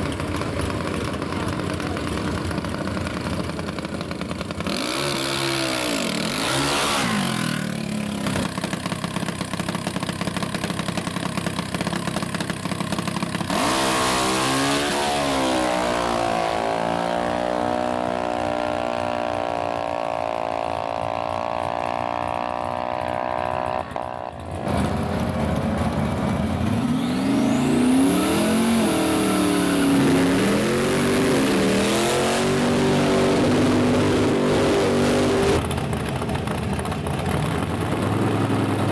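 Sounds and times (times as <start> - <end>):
drag racing engines revving: 0.0 - 9.9, 11.7 - 38.9.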